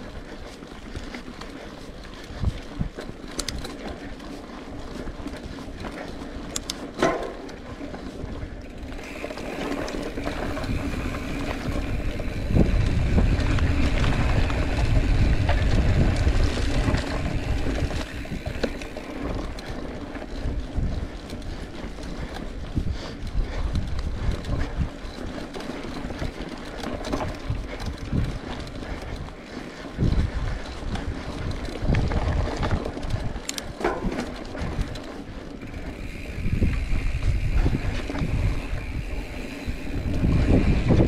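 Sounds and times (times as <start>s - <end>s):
bike clicks and rattles: 0.0s - 41.0s
bike tyres on dirt trail: 0.0s - 41.0s.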